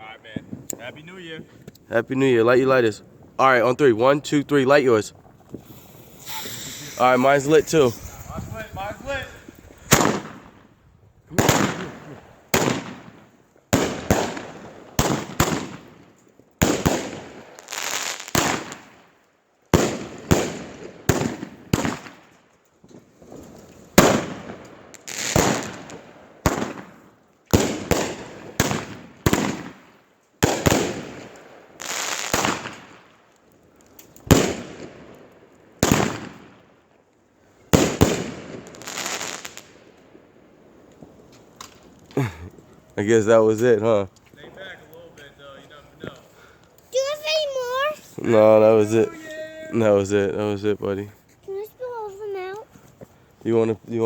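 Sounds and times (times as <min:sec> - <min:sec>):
fireworks bangs and crackle: 0:00.0 - 0:53.4.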